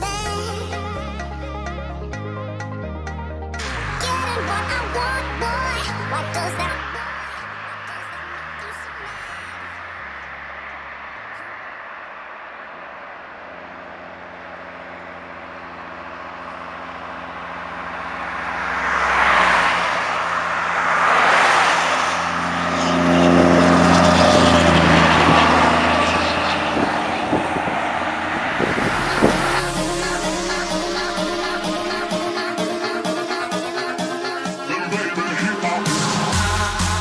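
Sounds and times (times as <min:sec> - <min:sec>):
truck diesel engine passing: 0:00.0 - 0:37.0
car passing: 0:03.6 - 0:37.0.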